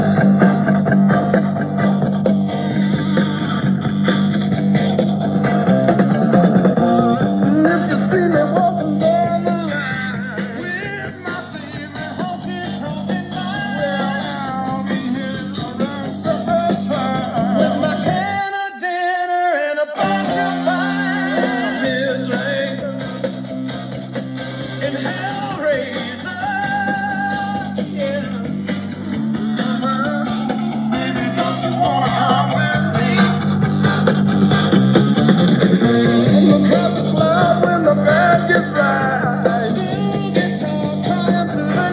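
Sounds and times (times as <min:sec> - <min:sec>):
steady bass line: 0:00.0 - 0:18.4, 0:20.0 - 0:41.9
guitar: 0:00.0 - 0:41.9
rock song with singing: 0:00.0 - 0:41.9.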